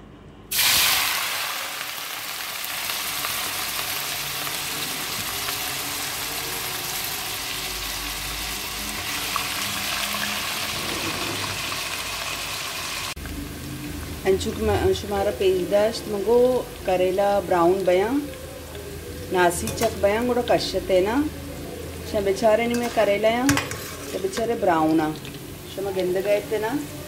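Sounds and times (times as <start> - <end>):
vegetables sizzling in hot oil: 0.5 - 21.4, 22.0 - 27.0.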